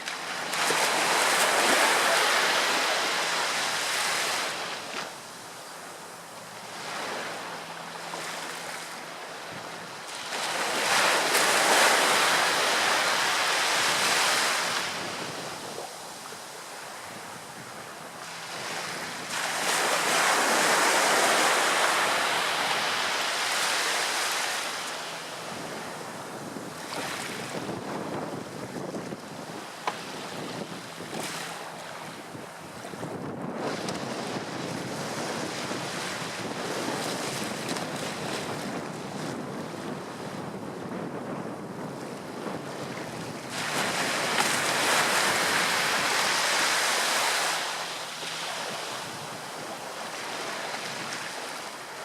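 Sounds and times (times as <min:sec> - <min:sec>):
steady surf hiss: 0:00.0 - 0:37.0, 0:43.3 - 0:52.0
waves breaking: 0:00.0 - 0:41.0, 0:41.8 - 0:52.0.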